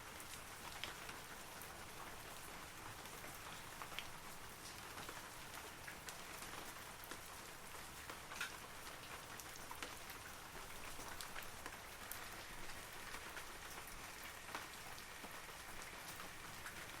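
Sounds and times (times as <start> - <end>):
rain falling on trees: 0.0 - 17.0.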